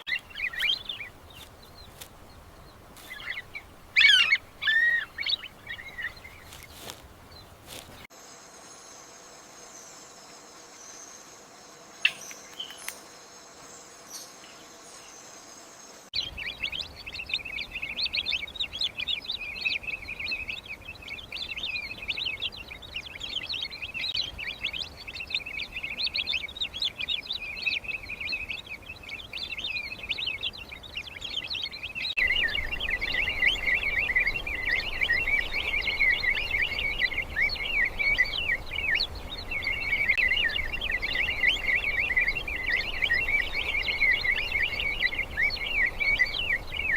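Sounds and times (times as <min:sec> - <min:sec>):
birds chirping and twittering: 0:00.0 - 0:46.9.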